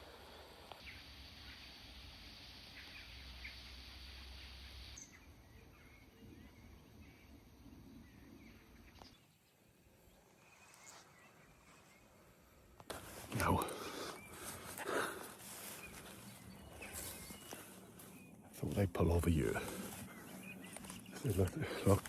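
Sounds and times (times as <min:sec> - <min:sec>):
faint birdsong: 0:00.0 - 0:22.0
outdoor background hiss: 0:00.0 - 0:22.0.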